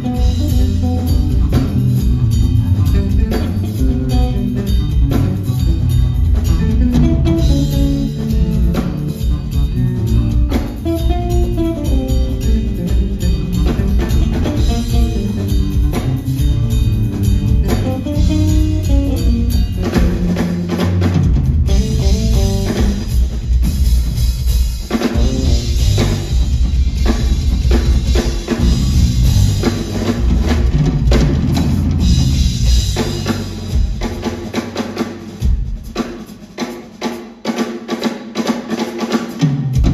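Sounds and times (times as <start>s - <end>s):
electric bass: 0.0s - 36.1s
drum kit and cymbals: 0.0s - 39.9s.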